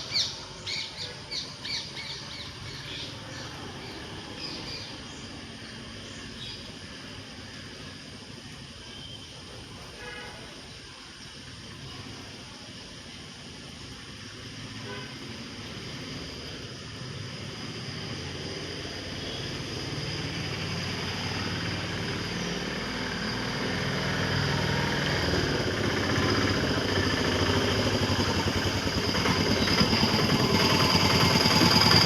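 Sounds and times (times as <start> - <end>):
motor engine running: 0.0 - 8.6, 14.1 - 32.0.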